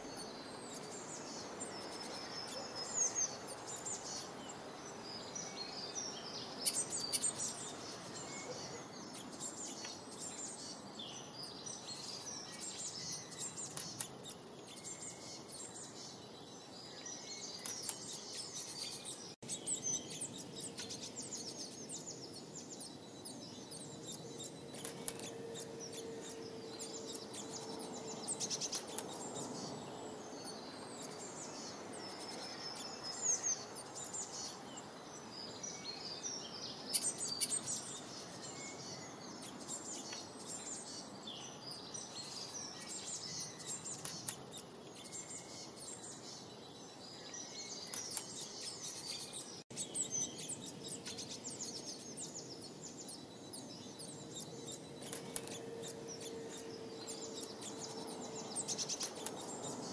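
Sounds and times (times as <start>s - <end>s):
small birds chirping and singing: 0.0s - 59.9s
steady background hiss: 0.0s - 59.9s.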